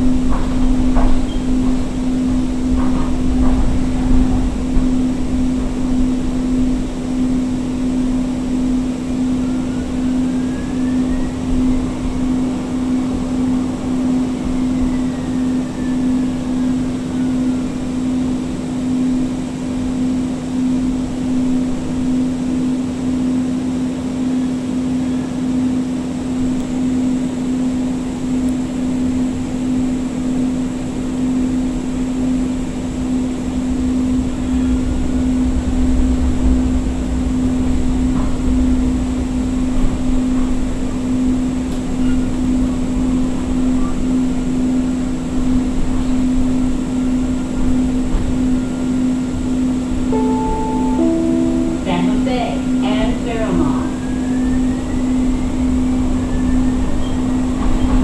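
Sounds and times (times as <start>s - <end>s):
rail car cabin low hum: 0.0s - 58.0s.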